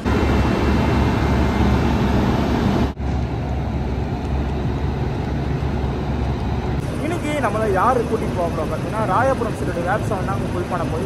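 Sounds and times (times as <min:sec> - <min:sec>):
electric locomotive blowers droning: 0:00.0 - 0:11.0.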